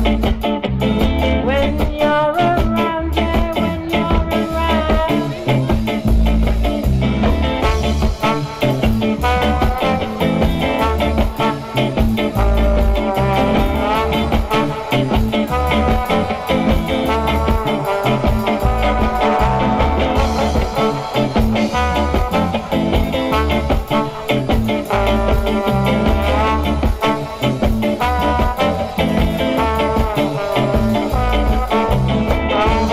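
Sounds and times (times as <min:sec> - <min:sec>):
live band playing ska groove: 0:00.0 - 0:32.9.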